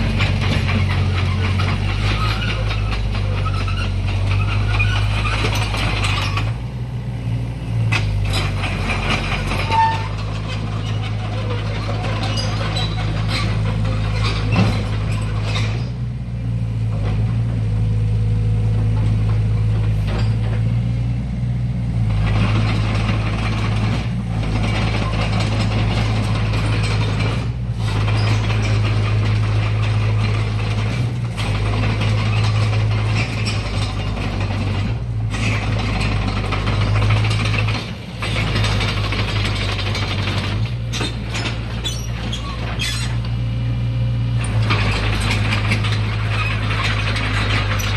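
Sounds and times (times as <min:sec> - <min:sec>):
excavator engine humming: 0:00.0 - 0:47.9.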